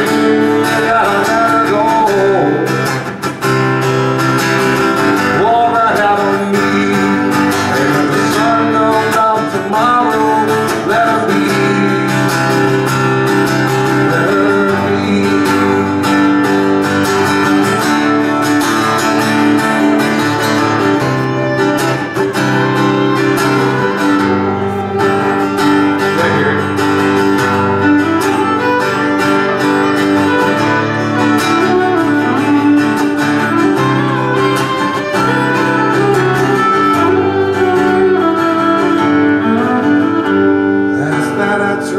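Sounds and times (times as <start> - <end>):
country music with acoustic guitar: 0.0 - 41.9.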